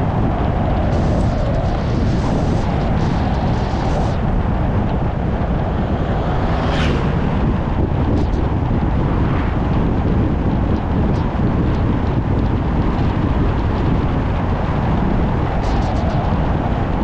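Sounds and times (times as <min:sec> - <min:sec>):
car engine and tyres rumbling: 0:00.0 - 0:17.0
wind buffeting microphone: 0:00.0 - 0:17.0.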